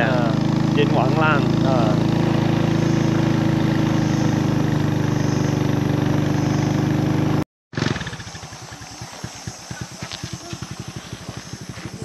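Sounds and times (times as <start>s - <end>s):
low regular pulsing: 0.0s - 7.0s, 8.0s - 12.0s
motorcycle engine running: 0.0s - 12.0s.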